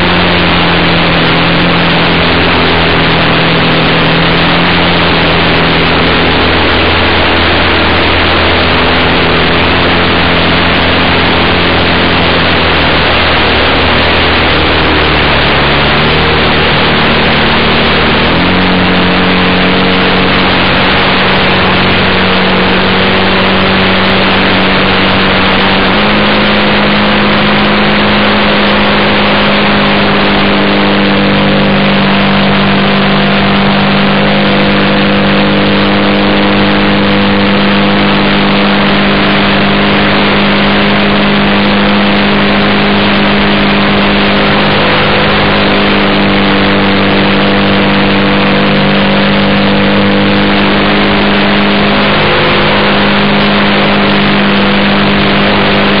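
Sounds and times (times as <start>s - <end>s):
model plane engine droning: 0.0s - 56.0s
wind noise: 0.0s - 56.0s.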